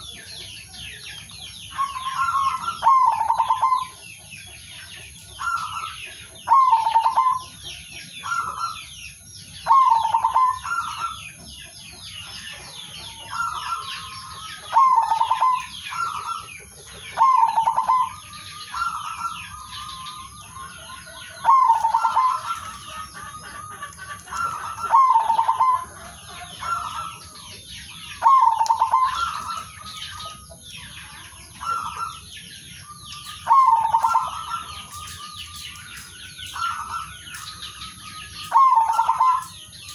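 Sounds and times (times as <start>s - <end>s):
dove cooing: 0.0s - 9.0s, 9.6s - 39.9s
high bird chirping: 0.0s - 39.9s.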